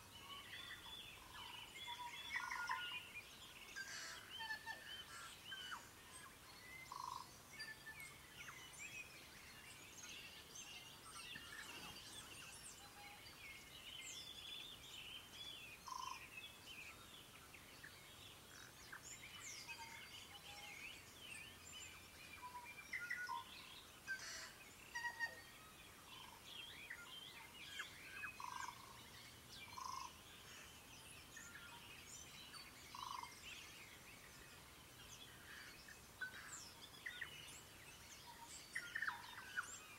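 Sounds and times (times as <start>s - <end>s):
many birds singing: 0.0s - 39.9s.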